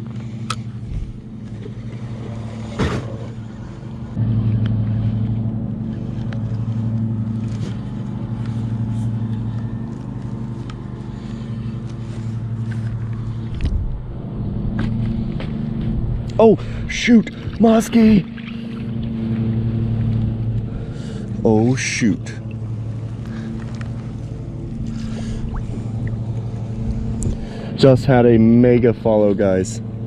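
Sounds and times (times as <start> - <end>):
motor low hum: 0.0 - 30.0.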